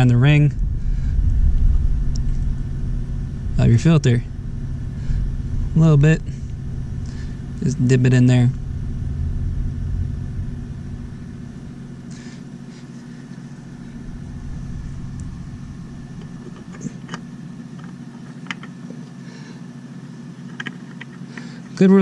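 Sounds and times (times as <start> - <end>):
deep rumble: 0.0 - 17.7
vehicle engine hum: 0.0 - 22.0.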